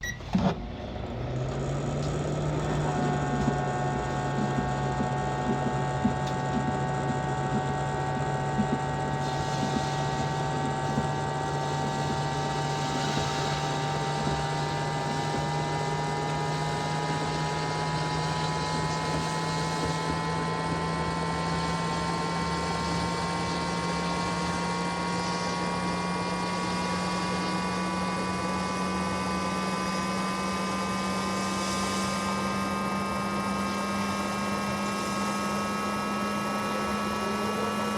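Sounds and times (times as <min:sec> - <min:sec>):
microwave oven humming: 0:00.0 - 0:37.9.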